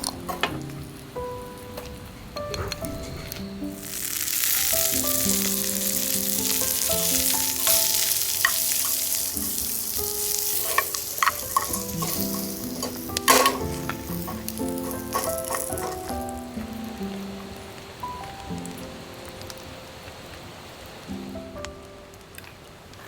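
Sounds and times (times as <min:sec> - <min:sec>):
gentle background music: 0:00.0 - 0:23.0
food sizzling in a pan: 0:03.3 - 0:21.9.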